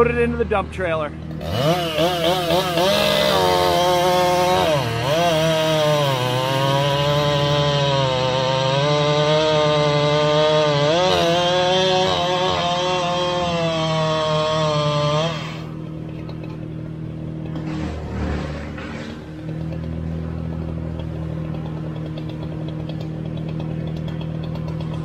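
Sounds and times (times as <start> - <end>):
tractor engine running: 0.0 - 25.0
chainsaw cutting log: 1.2 - 25.0.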